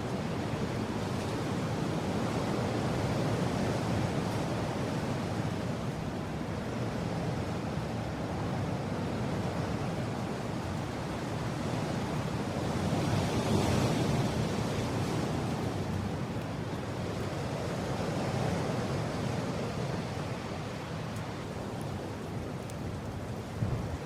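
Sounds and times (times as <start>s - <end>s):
wind blowing in a steady rush: 0.0s - 24.0s.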